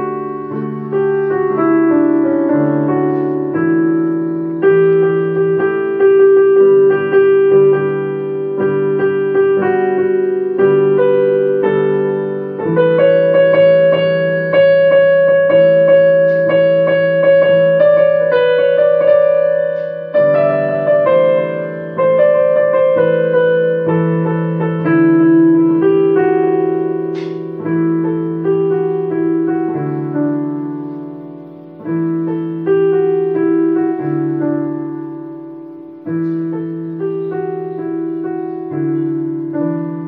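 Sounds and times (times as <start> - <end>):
slow piano notes and chords: 0.0 - 40.0.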